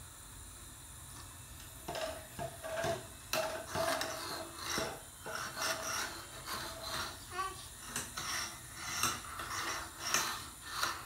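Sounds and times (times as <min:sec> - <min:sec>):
rubbing and scraping: 0:01.9 - 0:11.0.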